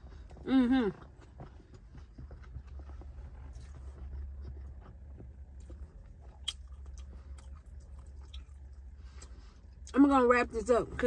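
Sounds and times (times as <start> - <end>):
person chewing food: 0.0 - 9.9
steady low hum: 0.0 - 11.0.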